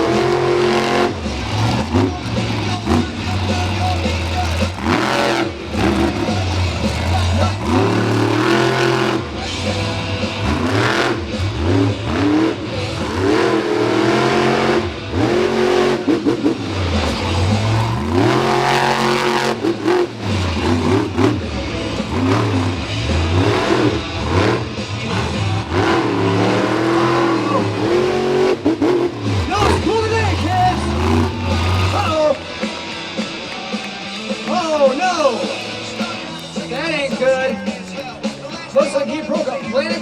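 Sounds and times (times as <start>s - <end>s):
truck engine revving hard: 0.0s - 33.4s.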